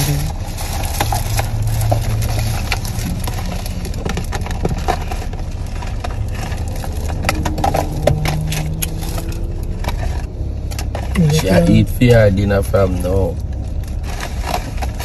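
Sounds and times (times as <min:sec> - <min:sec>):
cardboard box and paper bag crackling: 0:00.0 - 0:12.2, 0:12.9 - 0:15.0
car cabin rumble: 0:00.0 - 0:15.0.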